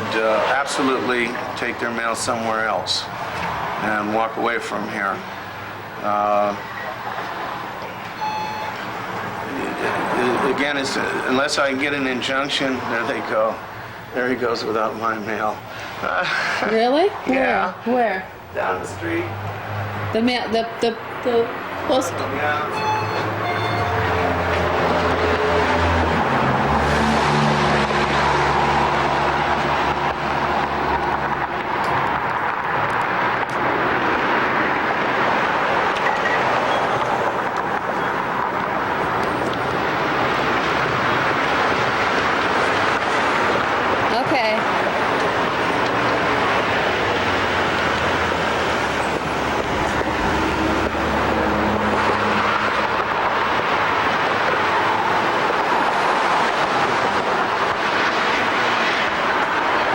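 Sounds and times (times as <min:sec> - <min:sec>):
road noise: 0:00.0 - 0:59.9
street traffic: 0:00.0 - 0:59.9
vehicle engine hum: 0:00.0 - 0:59.9.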